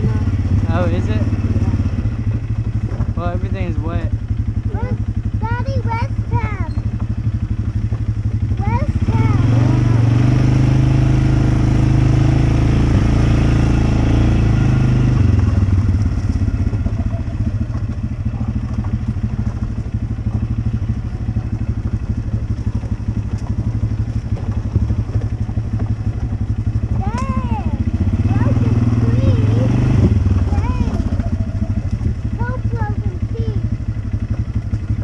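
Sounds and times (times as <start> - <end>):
off-road vehicle engine running: 0.0 - 35.0.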